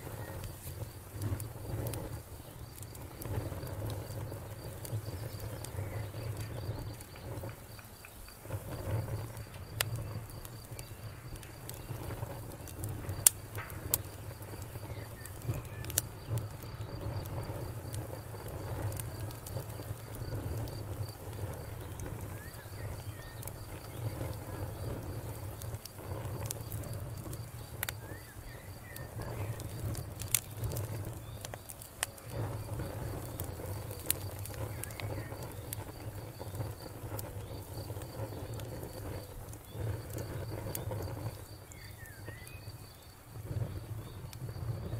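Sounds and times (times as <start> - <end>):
campfire crackling and popping: 0.0 - 44.9
cricket trilling: 0.0 - 44.9.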